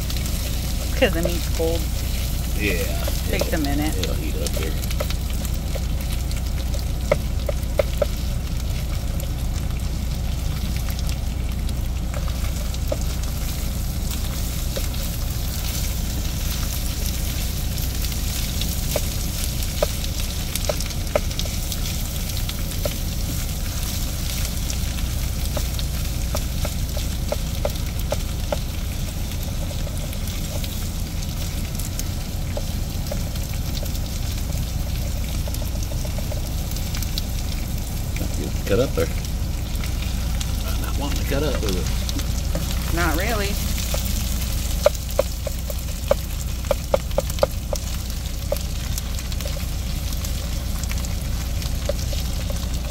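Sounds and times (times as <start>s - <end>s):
meat sizzling in a skillet: 0.0s - 52.9s
steady low hum: 0.0s - 52.9s.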